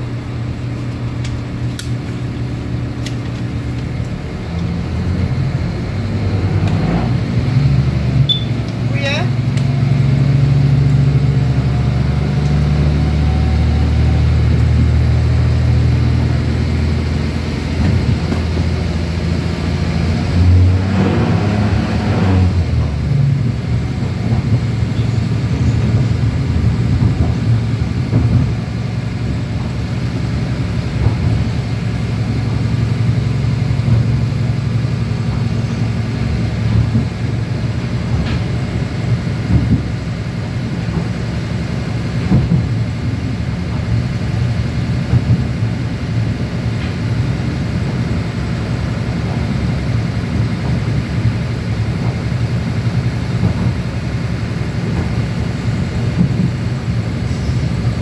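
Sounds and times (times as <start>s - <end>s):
train engine hum: 0.0s - 58.0s
train wheels rumbling on track: 0.0s - 58.0s.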